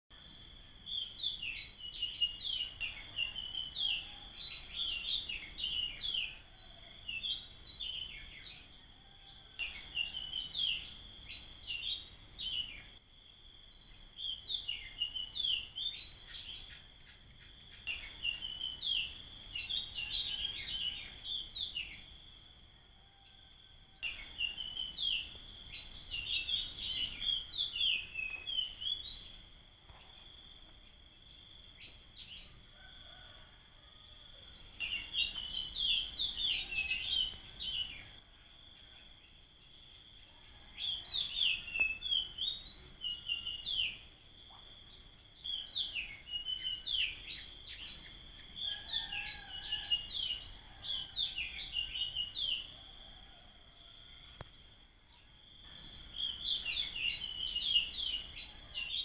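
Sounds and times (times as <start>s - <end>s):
bird chirping: 0.1s - 23.3s, 24.0s - 33.4s, 34.4s - 53.4s
high insect drone: 0.2s - 59.0s.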